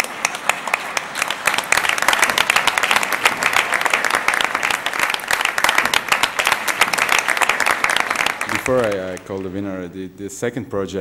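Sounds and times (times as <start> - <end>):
audience applause: 0.0 - 9.5.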